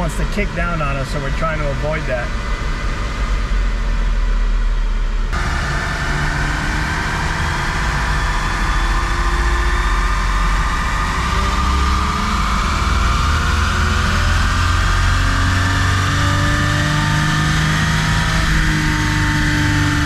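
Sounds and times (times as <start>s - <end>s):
car engine revving under load: 0.0s - 20.0s.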